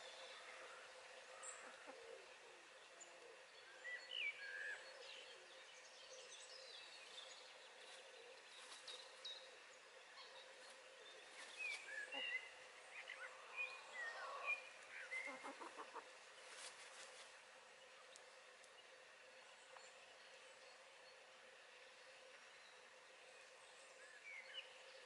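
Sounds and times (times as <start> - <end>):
small songbirds chirping: 0.0 - 25.0.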